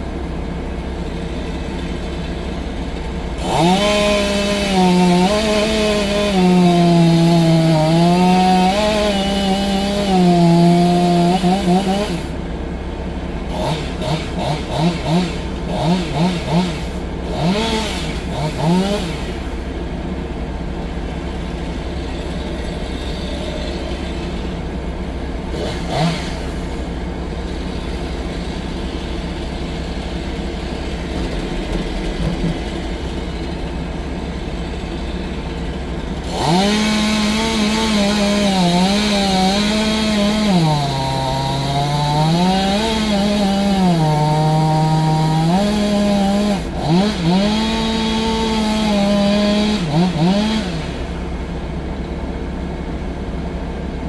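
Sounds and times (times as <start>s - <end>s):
diesel engine running: 0.0s - 54.0s
chainsaw cutting wood: 0.7s - 12.5s, 13.4s - 19.8s, 21.3s - 33.6s, 34.2s - 52.1s.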